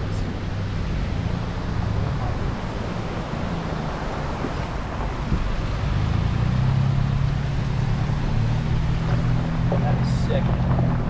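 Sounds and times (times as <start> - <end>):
low engine hum: 0.0 - 11.0
tyre and road noise: 0.0 - 11.0.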